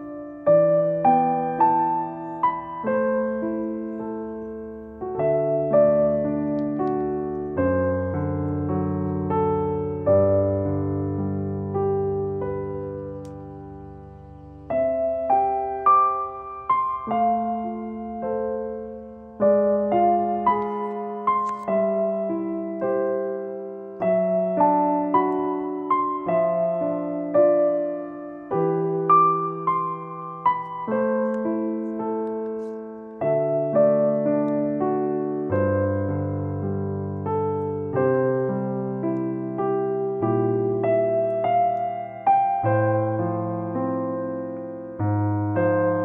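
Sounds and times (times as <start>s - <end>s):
slow piano piece: 0.0s - 46.0s.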